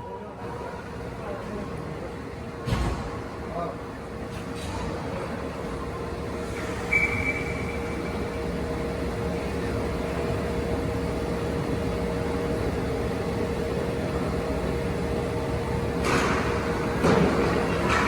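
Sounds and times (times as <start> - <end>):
constant hum: 0.0 - 18.0.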